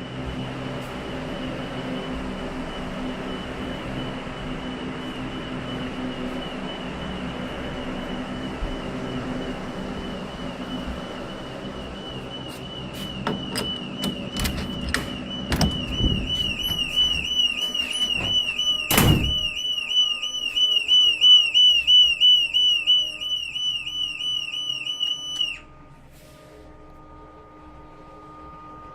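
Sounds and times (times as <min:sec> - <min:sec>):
warbling electronic alarm siren: 0:00.0 - 0:28.9.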